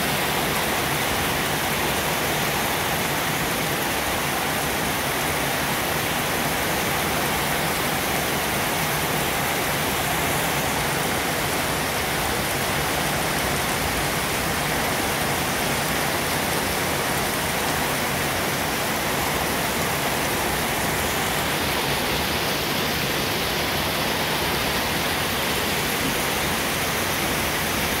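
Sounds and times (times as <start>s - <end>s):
steady rain pouring: 0.0s - 28.0s.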